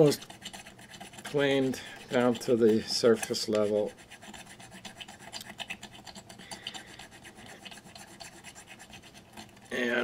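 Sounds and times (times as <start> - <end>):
steel file scraping: 0.0 - 10.0.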